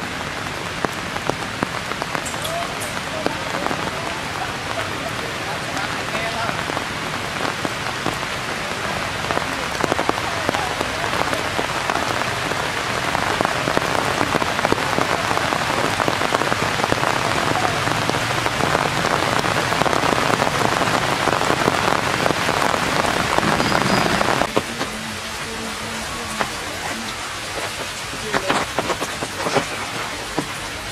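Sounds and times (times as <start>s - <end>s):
rain falling on forest ground: 0.0s - 30.9s.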